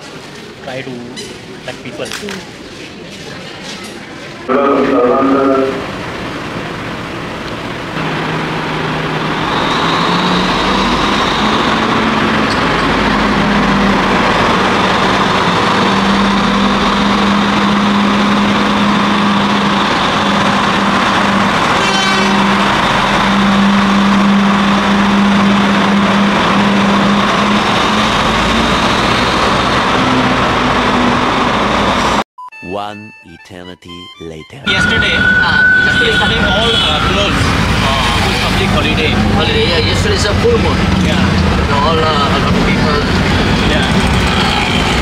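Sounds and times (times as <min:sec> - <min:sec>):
carriages rumbling on rails: 0:00.0 - 0:32.2, 0:34.7 - 0:45.0
train engine hum: 0:00.0 - 0:32.2, 0:34.7 - 0:45.0.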